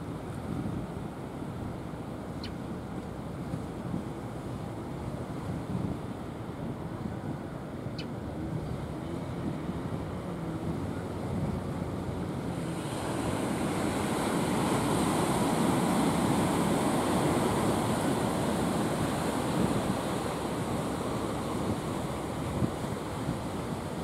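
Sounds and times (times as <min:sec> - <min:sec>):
sea surf washing onto shore: 0:00.0 - 0:24.0
wind on microphone: 0:00.0 - 0:24.0.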